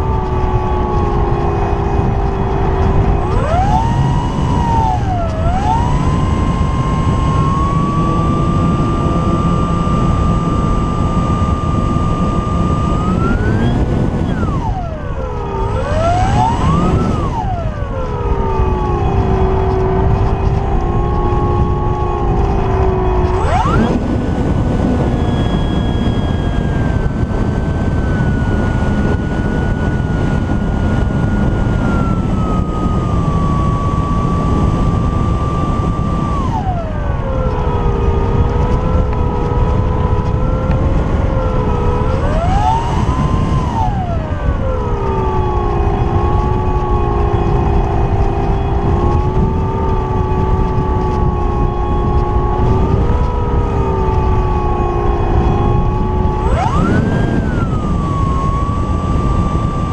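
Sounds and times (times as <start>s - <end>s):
model plane motor whining: 0.0s - 59.9s.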